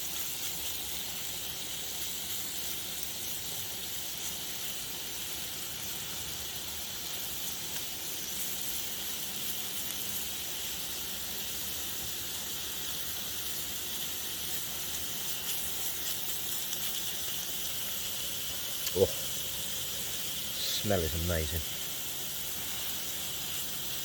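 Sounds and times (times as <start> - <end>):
chicken sizzling in frying oil: 0.0 - 24.0.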